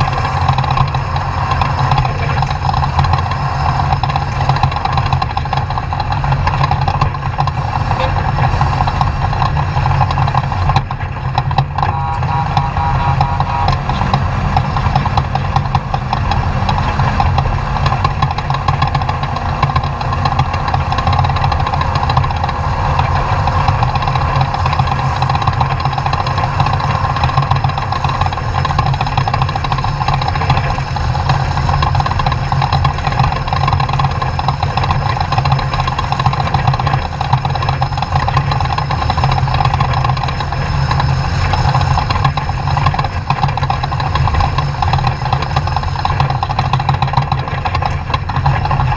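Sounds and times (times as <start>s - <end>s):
truck engine running loud: 0.0s - 48.9s.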